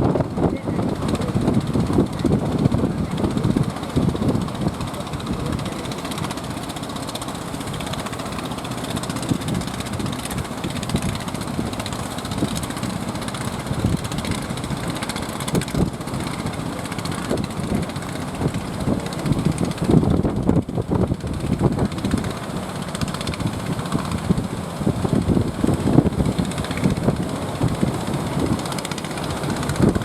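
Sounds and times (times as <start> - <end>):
wind and water rushing: 0.0 - 30.0
wind buffeting microphone: 0.0 - 30.0.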